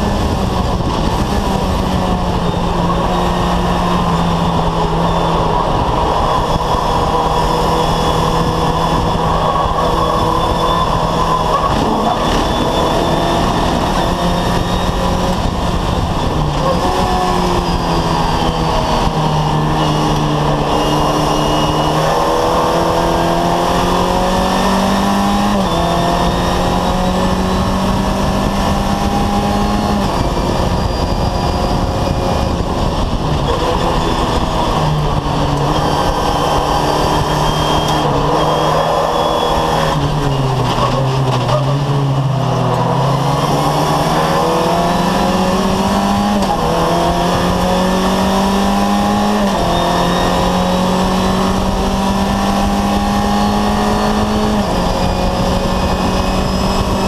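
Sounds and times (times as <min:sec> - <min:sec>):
race car engine accelerating: 0:00.0 - 0:57.0
road and wind noise: 0:00.0 - 0:57.0.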